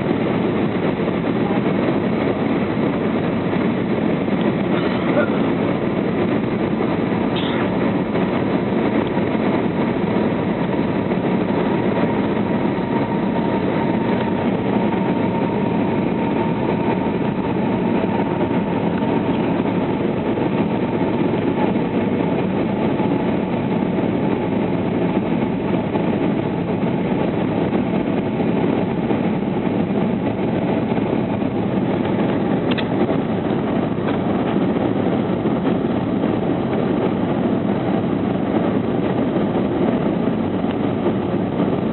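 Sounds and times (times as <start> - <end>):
engine and airflow rush: 0.0 - 41.9.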